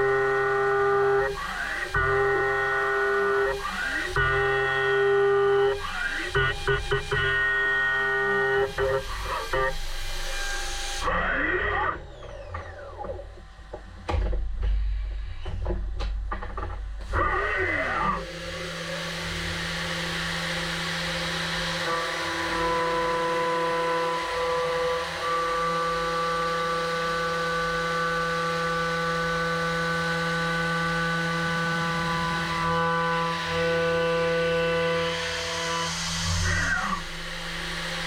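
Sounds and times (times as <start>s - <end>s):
milling machine whine: 0.0s - 38.0s.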